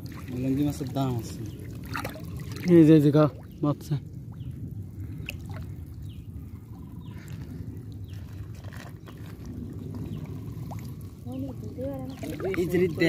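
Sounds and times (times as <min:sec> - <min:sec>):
water trickling and splashing: 0:00.0 - 0:13.0
steady low rumble: 0:01.1 - 0:13.0.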